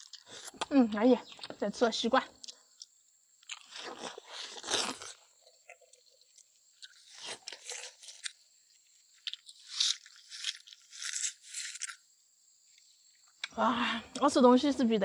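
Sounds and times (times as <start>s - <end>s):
crunchy chewing: 0.0s - 12.2s.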